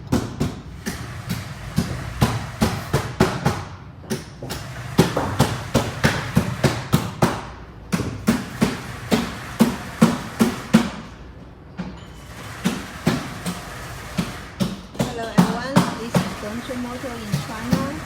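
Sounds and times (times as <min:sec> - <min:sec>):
rapid repeated knocks: 0:00.0 - 0:11.1, 0:12.3 - 0:18.0.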